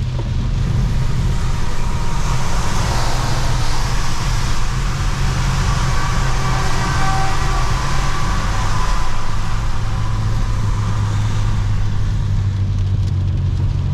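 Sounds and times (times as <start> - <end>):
low road drone inside car: 0.0 - 13.9
tyres hissing on wet pavement: 0.1 - 13.9.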